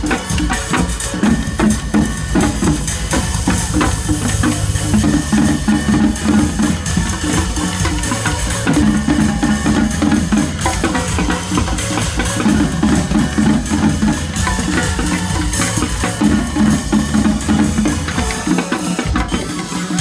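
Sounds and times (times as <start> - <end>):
bass drum strikes: 0.0 - 18.4
percussion ensemble drumming: 0.0 - 20.0.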